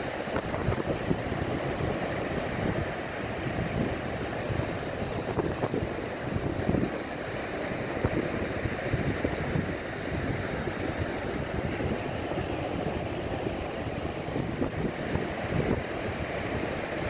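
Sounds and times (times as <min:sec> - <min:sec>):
sea surf breaking on beach: 0:00.0 - 0:17.0
wind buffeting microphone: 0:00.0 - 0:17.0.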